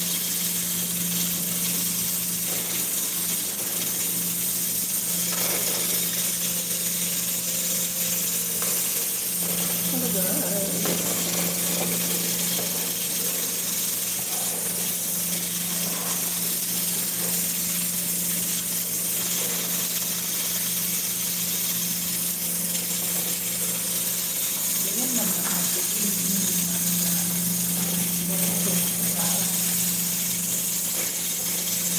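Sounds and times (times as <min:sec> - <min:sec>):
gas burner hissing: 0:00.0 - 0:31.9.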